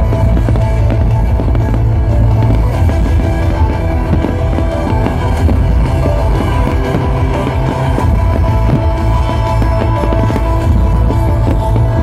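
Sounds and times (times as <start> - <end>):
loud rock music with heavy bass: 0.0 - 12.0.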